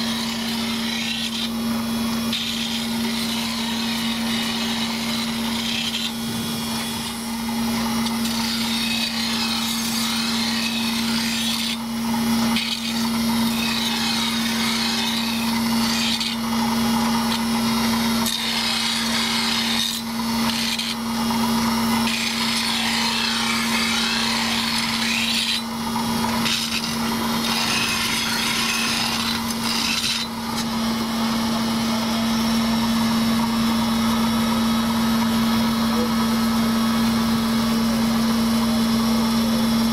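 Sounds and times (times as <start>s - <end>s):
grinding wheel rasping on knives: 0.0s - 36.1s
steady machine hum: 0.0s - 39.9s.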